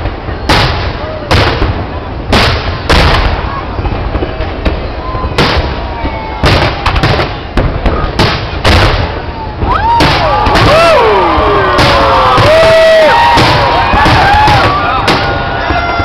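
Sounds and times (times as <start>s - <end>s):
fireworks bangs: 0.0s - 16.0s
whistling fireworks: 0.0s - 16.0s.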